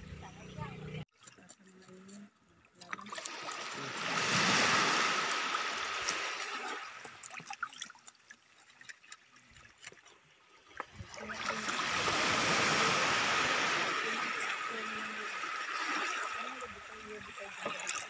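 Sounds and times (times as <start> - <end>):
small waves washing on sand: 2.8 - 18.0.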